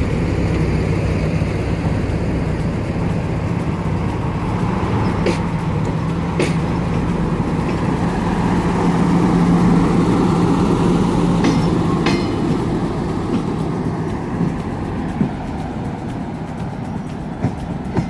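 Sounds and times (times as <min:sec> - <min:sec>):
diesel train engine humming: 0:00.0 - 0:18.0.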